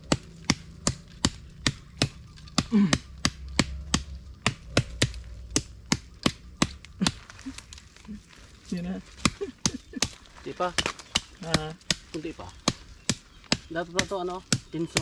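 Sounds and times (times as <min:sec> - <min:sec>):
machete chopping bamboo: 0:00.0 - 0:07.8, 0:09.2 - 0:15.0.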